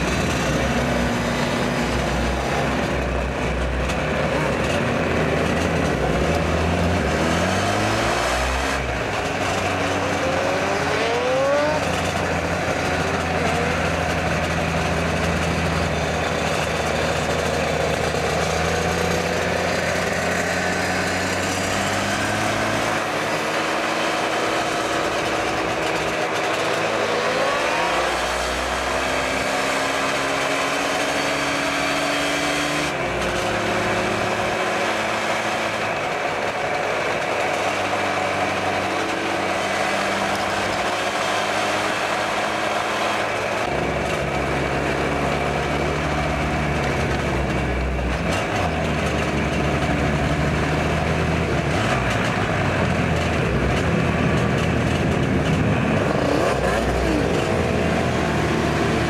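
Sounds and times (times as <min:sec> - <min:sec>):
motorcycle engines accelerating: 0:00.0 - 0:59.0.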